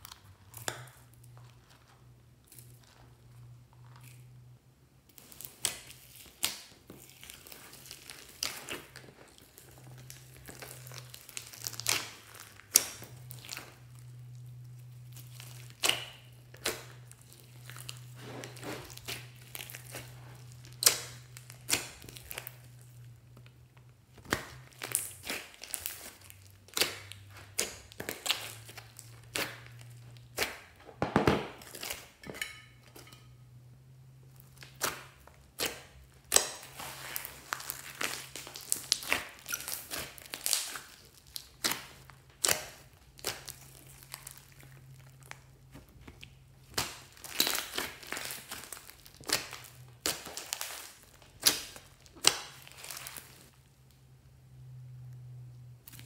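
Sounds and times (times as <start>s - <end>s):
slime squishing with sticky pops: 0.0s - 4.4s, 5.0s - 33.2s, 34.2s - 54.1s.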